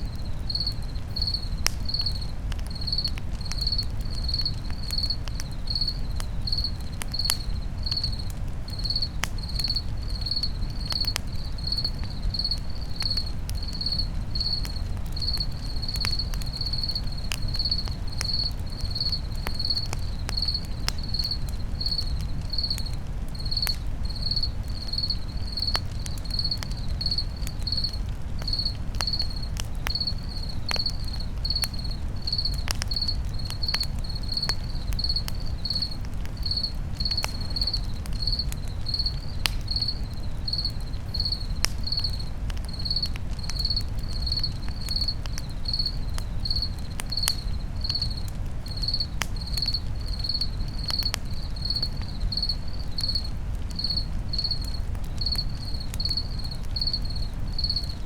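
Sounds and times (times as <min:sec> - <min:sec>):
campfire crackling and popping: 0:00.0 - 0:58.0
crickets chirping: 0:00.0 - 0:58.0.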